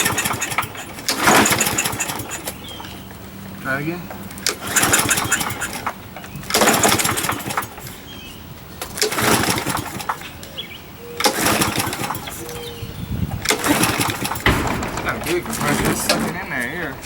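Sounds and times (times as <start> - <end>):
mower engine being pull-started: 0.0 - 3.3, 4.1 - 10.5, 11.2 - 12.8, 13.4 - 17.0.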